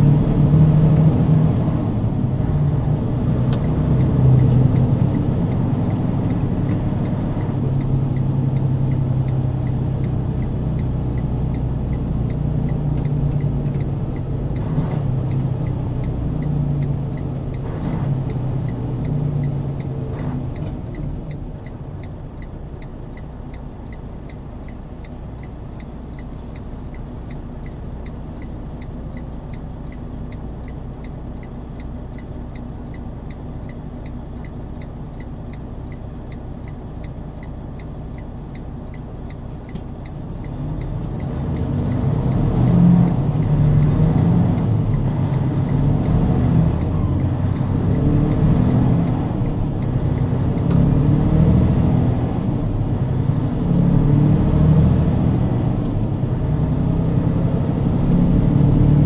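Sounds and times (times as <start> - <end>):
diesel truck engine: 0.0 - 59.0.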